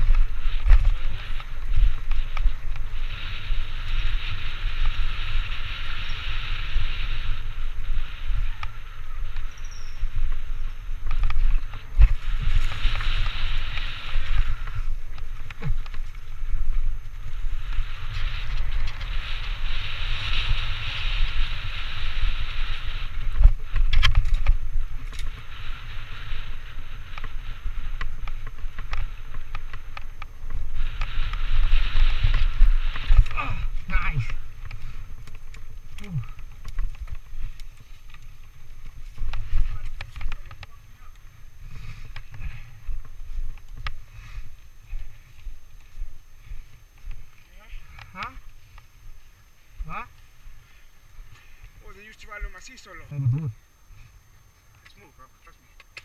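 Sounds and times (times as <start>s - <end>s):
bike knocking and rattling: 0.0s - 51.8s
wind buffeting microphone: 0.0s - 54.3s
tyres hissing through leaves: 0.0s - 56.0s.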